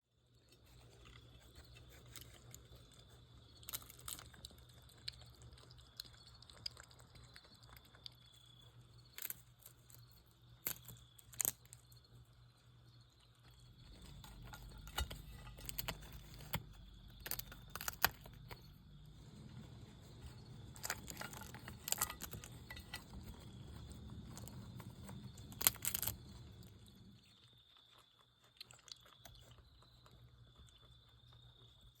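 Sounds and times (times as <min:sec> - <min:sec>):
animals chewing crunchy food: 0:00.1 - 0:32.0.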